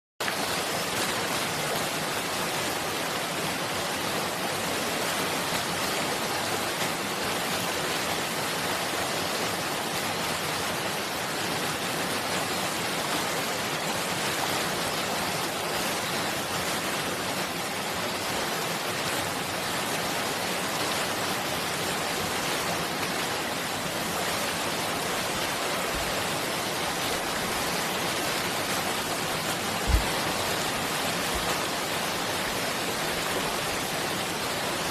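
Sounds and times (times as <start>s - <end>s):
water rushing: 0.2s - 34.9s.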